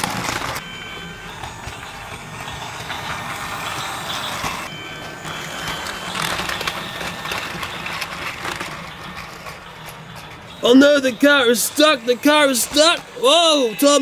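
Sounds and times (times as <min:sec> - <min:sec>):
toy train motor whirring: 0:00.0 - 0:14.0.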